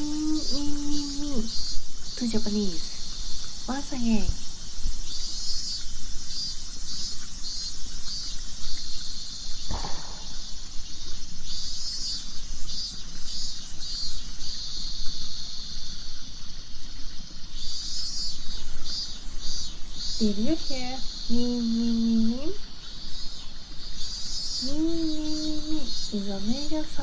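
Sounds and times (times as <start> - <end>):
cicada singing: 0.0 - 27.0.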